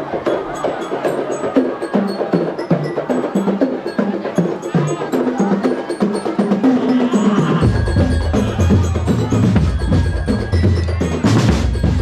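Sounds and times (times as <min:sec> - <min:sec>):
percussion ensemble playing: 0:00.0 - 0:12.0.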